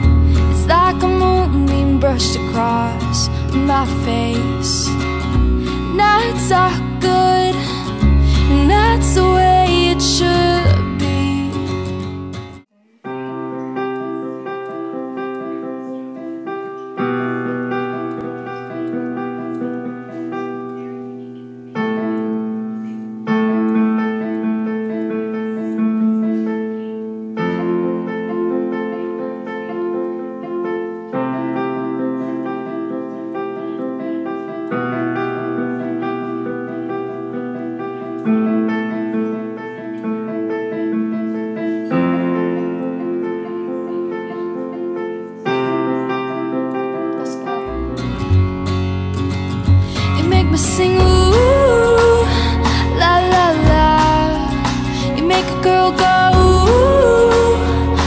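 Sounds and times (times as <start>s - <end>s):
digital piano chords: 0.0s - 58.0s.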